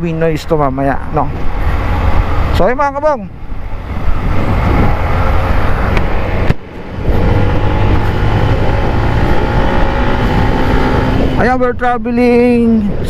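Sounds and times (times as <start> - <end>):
motorcycle engine drone: 0.0 - 13.0
wind buffeting microphone: 0.0 - 13.0.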